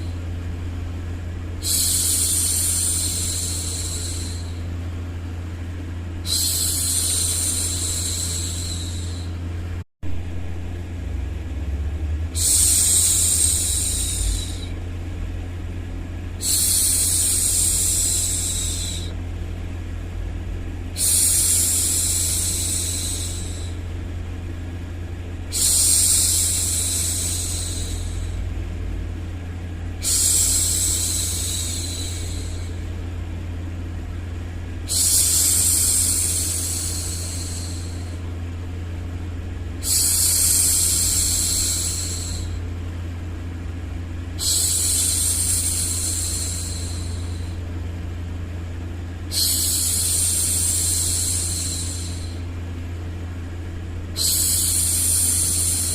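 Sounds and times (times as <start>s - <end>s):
steady low noise: 0.0s - 55.9s.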